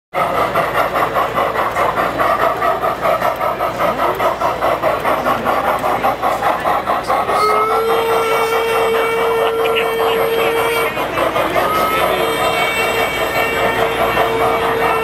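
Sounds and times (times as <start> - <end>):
model steam locomotive chuffing: 0.2 - 15.0.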